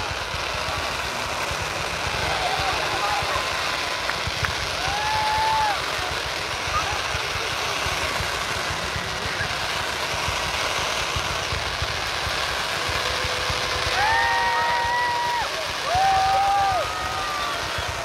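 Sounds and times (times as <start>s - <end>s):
fireworks crackling: 0.0s - 18.0s
fountain fireworks hissing: 0.0s - 18.0s.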